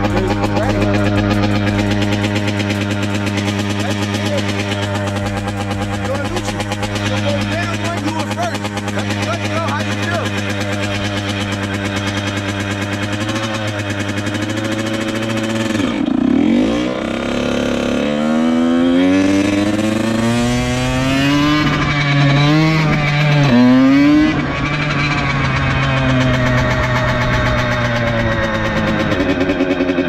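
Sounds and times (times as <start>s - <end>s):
dirt bike engine idling and revving: 0.0s - 30.0s.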